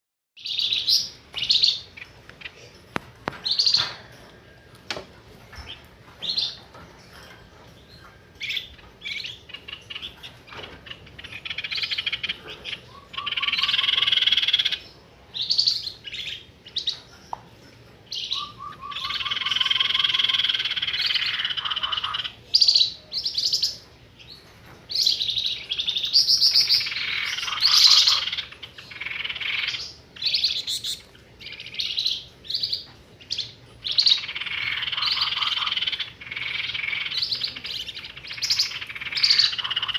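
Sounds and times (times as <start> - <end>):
bird chirps and trills: 0.4 - 39.9.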